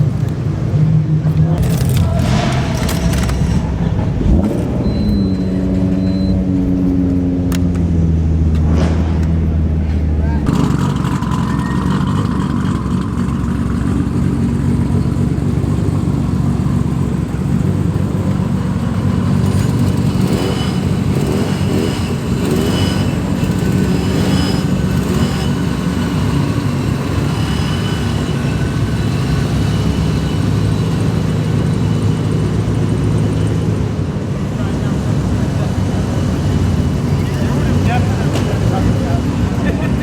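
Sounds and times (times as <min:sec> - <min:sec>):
vehicle engine hum: 0:00.0 - 0:40.0.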